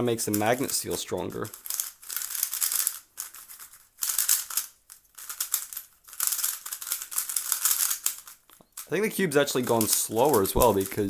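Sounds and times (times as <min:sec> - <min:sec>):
speed cube rattling and clicking: 0:00.2 - 0:11.0.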